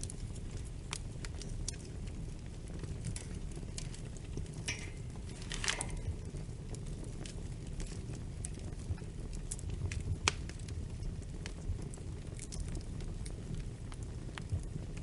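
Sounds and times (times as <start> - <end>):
fire popping: 0.0 - 15.0
steady low rumble: 0.0 - 15.0
wood fire crackling: 0.0 - 15.0.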